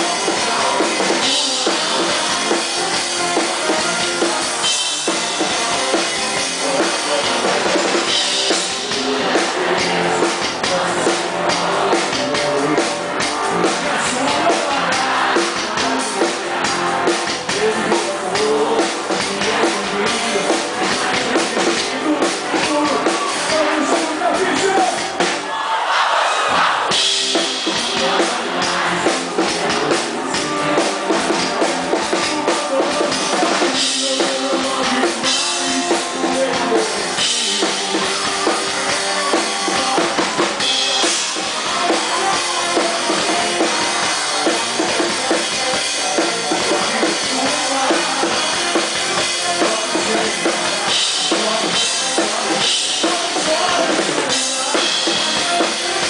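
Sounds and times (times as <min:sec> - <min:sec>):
bass drum and snare beat: 0:00.0 - 0:25.4, 0:26.5 - 0:56.0
pop-rock band playing: 0:00.0 - 0:56.0.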